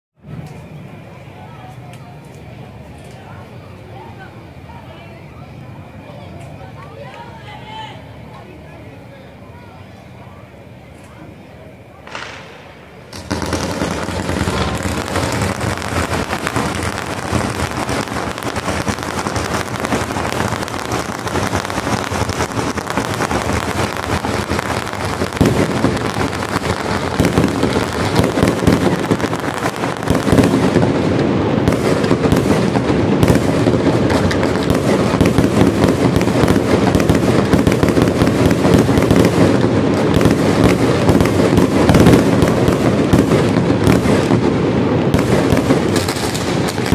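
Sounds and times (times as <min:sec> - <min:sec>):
fireworks bursting and crackling: 0:00.2 - 0:08.7, 0:09.5 - 0:46.9.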